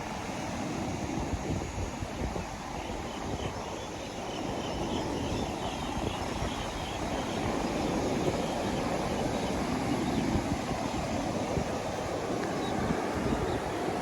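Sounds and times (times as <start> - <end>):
ocean waves on a beach: 0.0 - 14.0.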